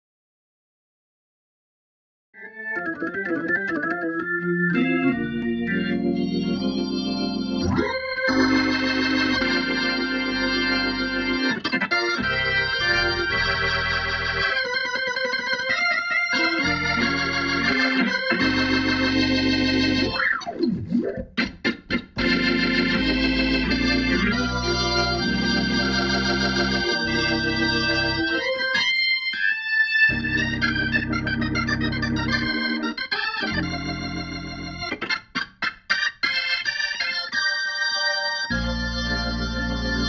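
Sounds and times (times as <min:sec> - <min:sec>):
organ playing chords: 0:02.4 - 0:40.0.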